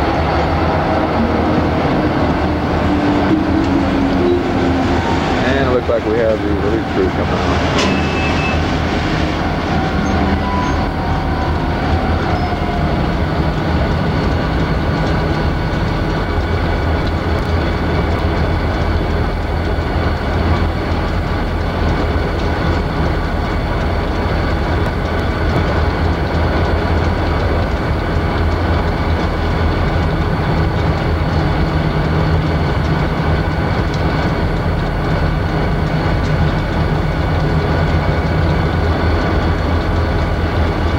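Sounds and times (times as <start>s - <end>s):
diesel locomotives idling: 0.0s - 40.9s.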